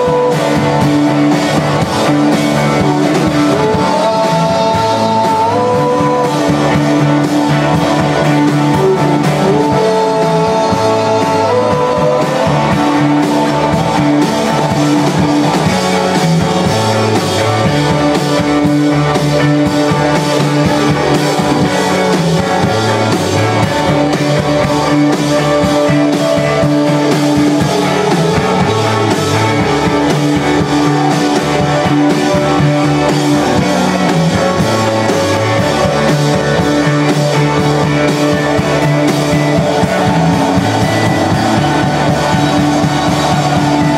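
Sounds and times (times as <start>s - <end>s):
drum kit: 0.0s - 43.9s
electric guitars: 0.0s - 43.9s
keyboard: 0.0s - 43.9s.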